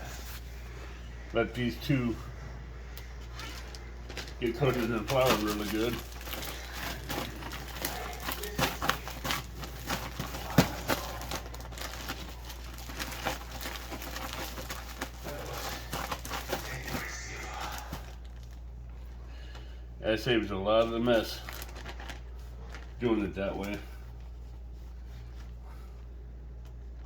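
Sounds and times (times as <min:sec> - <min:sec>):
plastic bag rustling and crinkling: 0:00.0 - 0:25.9.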